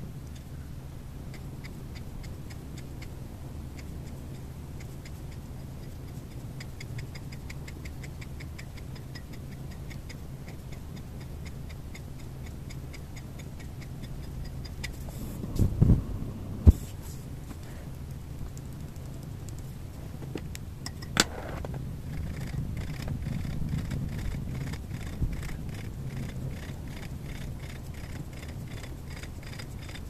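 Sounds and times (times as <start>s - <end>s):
steady low hum: 0.0s - 30.0s
fast even ticking: 1.2s - 15.1s, 17.9s - 21.3s, 22.0s - 30.0s.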